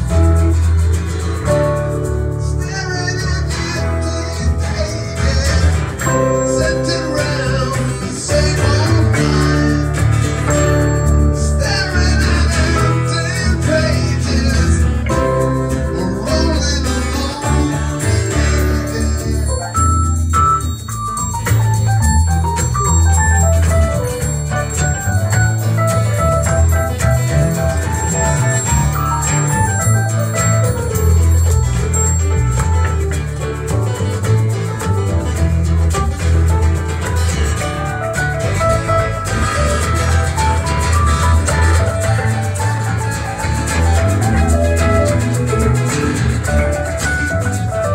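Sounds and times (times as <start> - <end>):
bass line: 0.0 - 47.9
electric guitar: 0.0 - 47.9
electric keyboard: 0.0 - 47.9
strummed acoustic guitar: 0.0 - 47.9.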